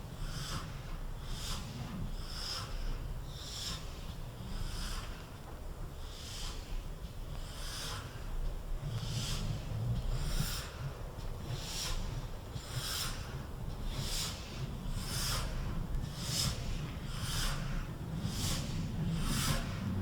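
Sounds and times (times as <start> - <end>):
constant low rumble: 0.0 - 20.0
steam locomotive exhaust chuffs: 0.0 - 20.0.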